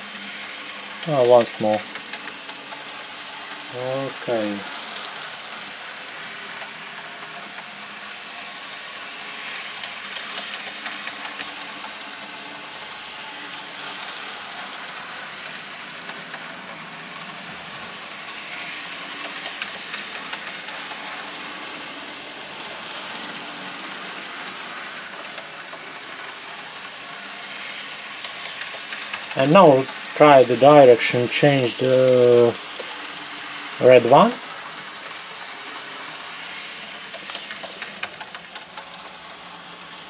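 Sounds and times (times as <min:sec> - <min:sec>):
wheels clicking on rail: 0:00.0 - 0:40.0.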